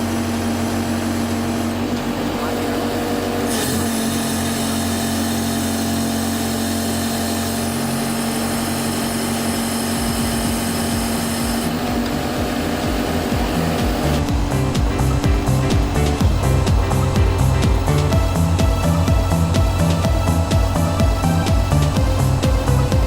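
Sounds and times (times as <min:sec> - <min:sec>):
pile driver engine running: 0:00.0 - 0:23.0.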